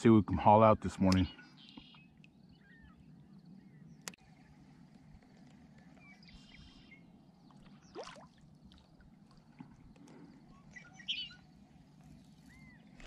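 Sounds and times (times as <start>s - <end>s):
faint distant bird trills: 1.1s - 13.0s.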